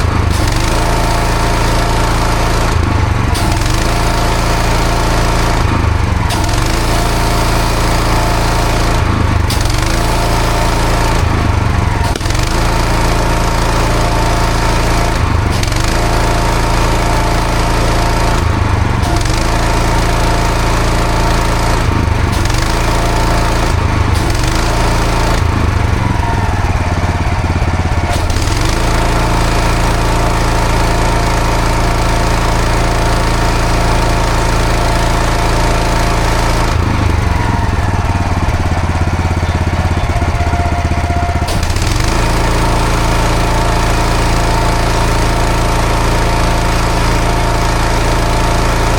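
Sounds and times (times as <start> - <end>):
pressure washer engine running: 0.0 - 48.9.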